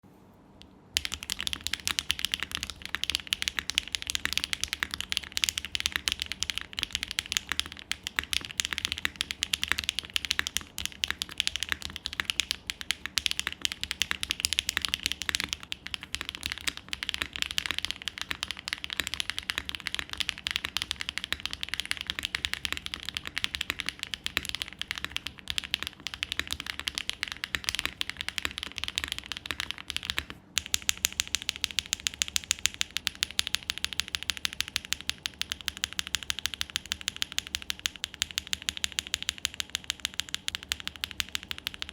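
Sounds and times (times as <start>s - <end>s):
fast mechanical keyboard typing: 0.9s - 41.9s.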